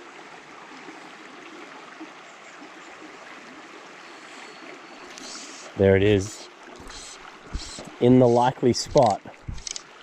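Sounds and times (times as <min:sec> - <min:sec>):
stream water flowing: 0:00.0 - 0:10.0.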